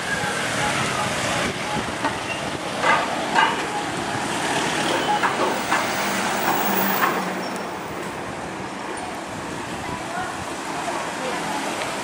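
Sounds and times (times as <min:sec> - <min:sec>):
low engine hum of traffic: 0:00.0 - 0:12.0.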